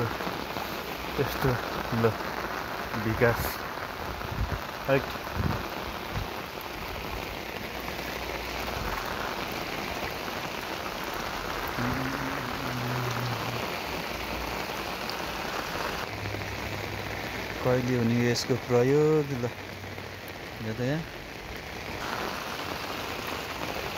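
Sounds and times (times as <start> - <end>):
rain falling on water: 0.0 - 23.9.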